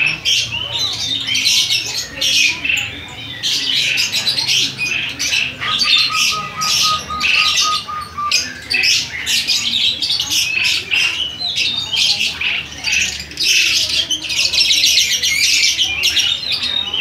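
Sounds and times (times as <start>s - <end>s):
lovebirds chirping and squawking: 0.0s - 17.0s.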